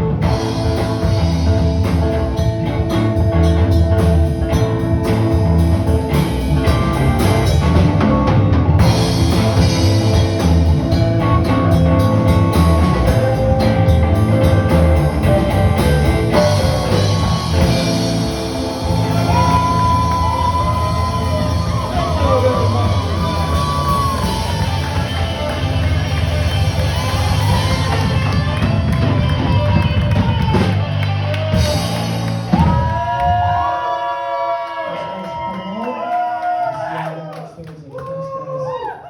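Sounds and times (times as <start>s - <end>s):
bending lead guitar line: 0.0s - 33.2s
live rock band playing: 0.0s - 33.7s.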